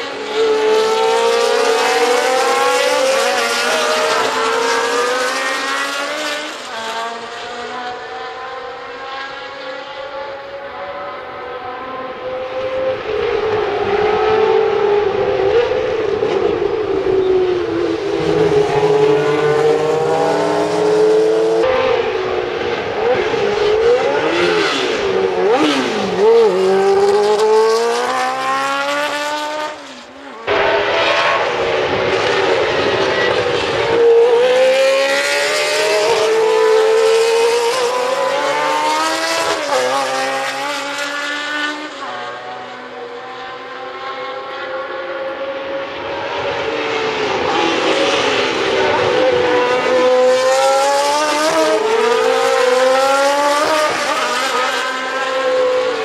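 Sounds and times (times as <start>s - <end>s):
racing car engines at high revs: 0.0s - 56.0s.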